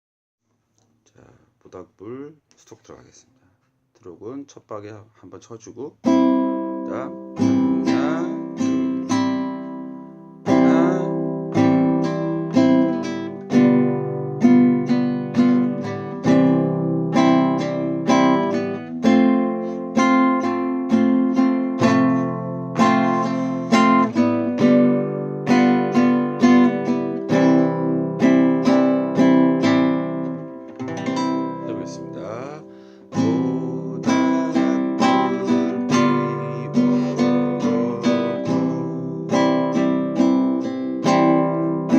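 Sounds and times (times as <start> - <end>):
acoustic guitar strumming: 6.0 - 41.9.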